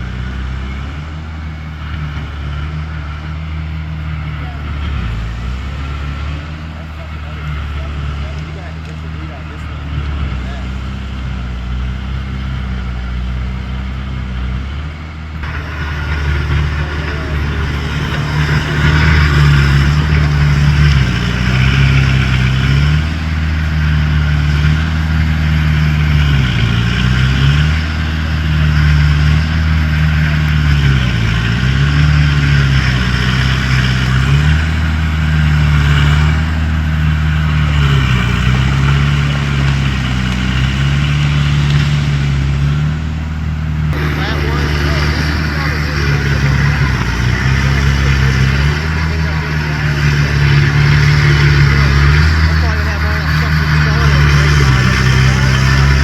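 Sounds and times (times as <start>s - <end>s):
bulldozer diesel engine: 0.0s - 56.0s
rattly mechanical noise: 0.0s - 56.0s.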